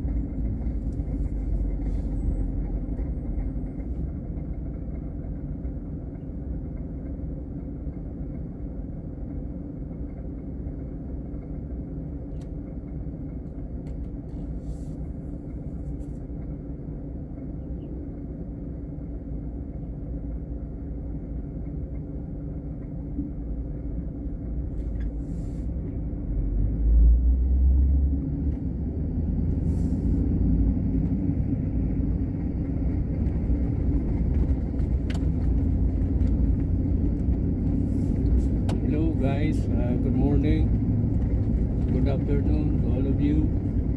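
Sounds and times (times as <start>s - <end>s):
engine and road rumble in car: 0.0s - 43.9s.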